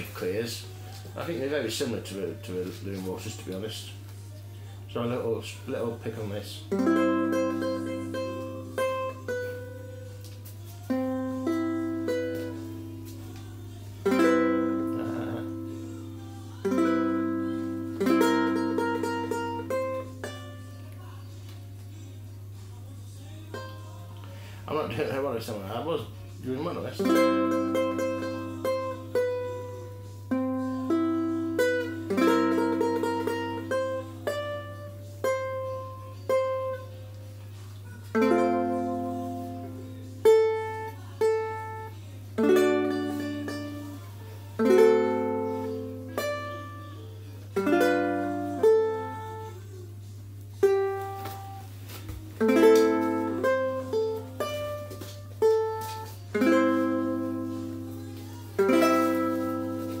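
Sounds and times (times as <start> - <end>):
fingerpicked ukulele: 5.7 - 22.5, 23.4 - 24.2, 26.0 - 60.0.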